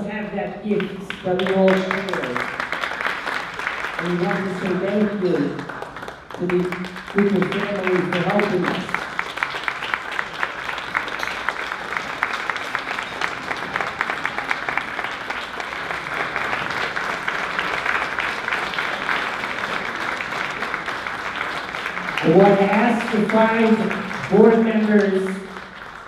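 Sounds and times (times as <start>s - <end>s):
audience applauding: 0.7s - 26.0s.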